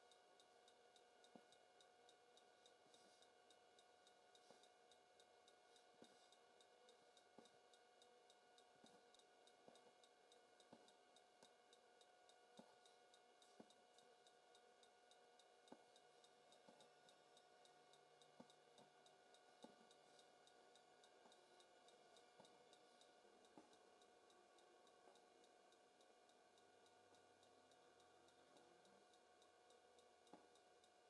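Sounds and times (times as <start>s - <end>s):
faint steady hum: 0.0s - 31.0s
faint ticking: 0.0s - 31.0s.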